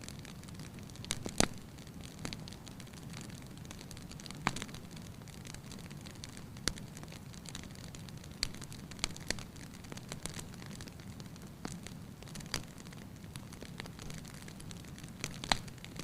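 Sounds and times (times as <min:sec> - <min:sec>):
low rumble of burning fire: 0:00.0 - 0:16.0
wood fire popping: 0:00.0 - 0:16.0.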